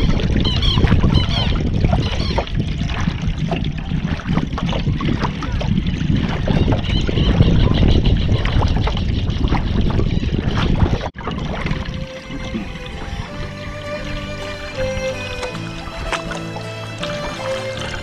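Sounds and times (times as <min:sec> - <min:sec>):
wind rumble on microphone: 0:00.0 - 0:16.5
water splashing against kayak: 0:00.0 - 0:18.0.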